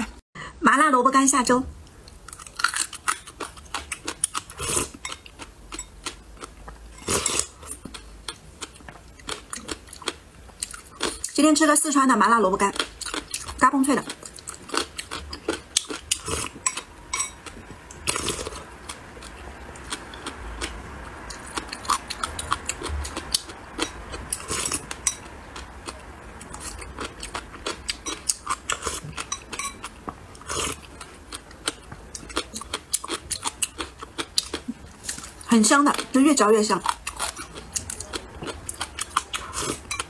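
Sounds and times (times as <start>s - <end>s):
crunchy chewing: 2.0s - 11.3s, 12.7s - 36.0s, 36.8s - 40.0s.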